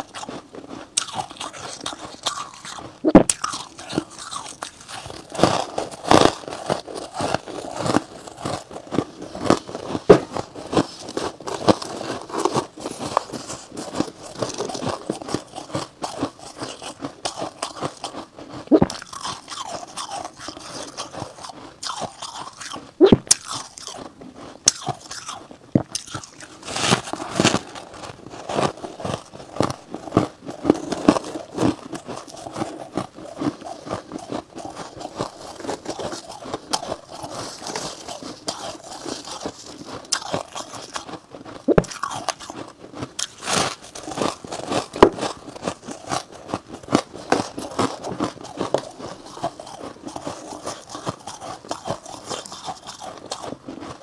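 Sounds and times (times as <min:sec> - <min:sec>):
frost being bitten and chewed: 0:00.0 - 0:54.0.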